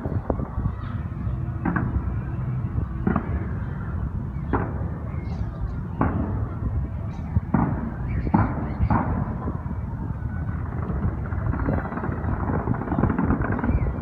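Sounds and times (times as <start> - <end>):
steady low rumble: 0.0 - 14.0
distant fireworks bursting: 1.3 - 14.0.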